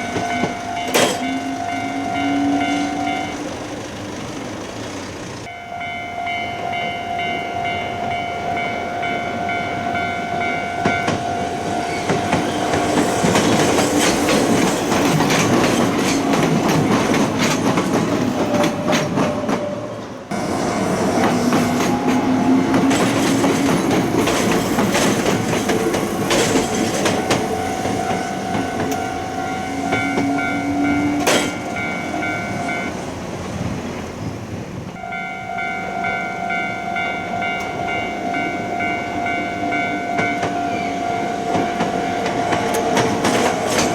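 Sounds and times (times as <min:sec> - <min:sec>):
railroad crossing bell ringing: 0:00.0 - 0:18.1, 0:21.2 - 0:33.0, 0:35.0 - 0:43.9
train motor whine: 0:00.0 - 0:18.8, 0:20.3 - 0:34.4, 0:35.0 - 0:43.9
train wheels clattering on rails: 0:00.0 - 0:43.9.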